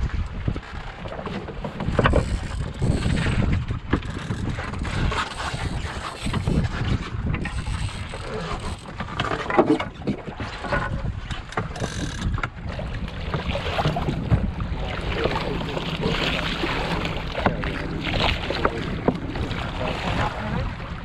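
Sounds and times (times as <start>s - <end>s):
water splashing along wooden hull: 0.0s - 21.0s
wind buffeting microphone: 0.0s - 21.0s.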